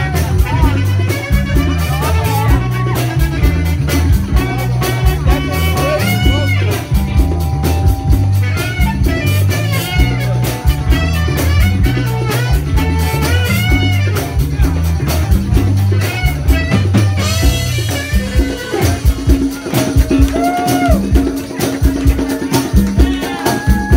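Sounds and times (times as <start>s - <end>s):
alto saxophone melody: 0.0s - 21.4s
bass line: 0.0s - 23.9s
drum kit: 0.0s - 23.9s
live band disco funk groove: 0.0s - 23.9s.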